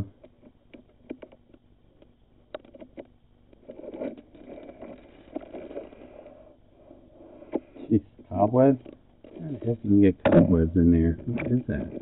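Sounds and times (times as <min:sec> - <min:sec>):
rustling and scraping: 0:00.0 - 0:12.0.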